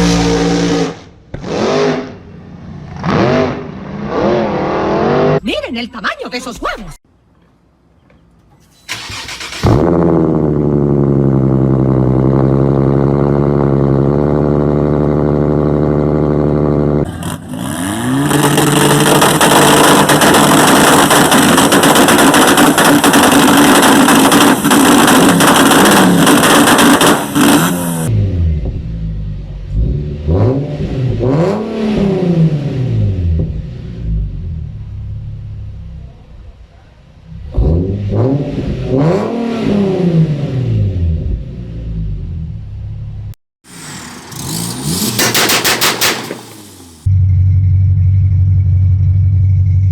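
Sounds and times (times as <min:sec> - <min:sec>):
car engines revving: 0:00.0 - 0:05.4, 0:08.9 - 0:35.9, 0:37.2 - 0:47.1.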